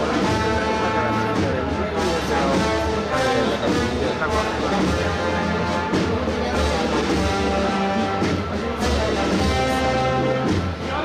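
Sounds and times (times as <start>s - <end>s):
brass band playing a march: 0.0s - 11.0s.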